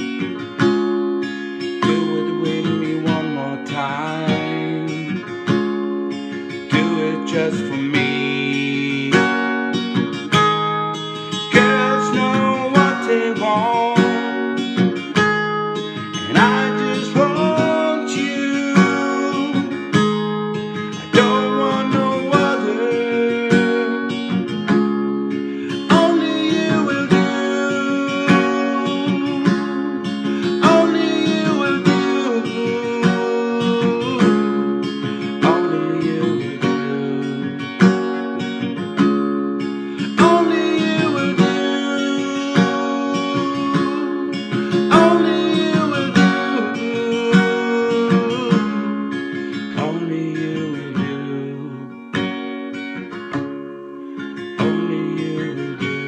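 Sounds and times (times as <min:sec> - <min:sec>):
man singing: 0:00.0 - 0:00.7, 0:01.6 - 0:05.7, 0:06.4 - 0:10.0, 0:11.3 - 0:15.0, 0:16.0 - 0:20.2, 0:20.8 - 0:38.2, 0:39.8 - 0:52.3, 0:54.3 - 0:56.0
acoustic guitar strumming: 0:00.0 - 0:56.0.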